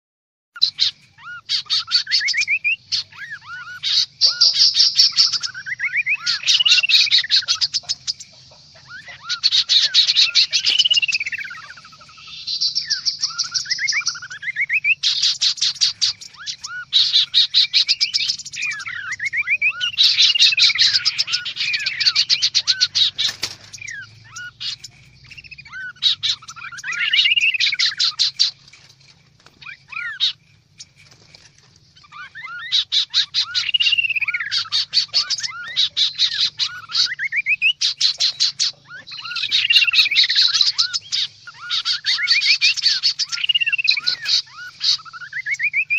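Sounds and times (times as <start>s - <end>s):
babblers chattering: 0.6s - 45.9s.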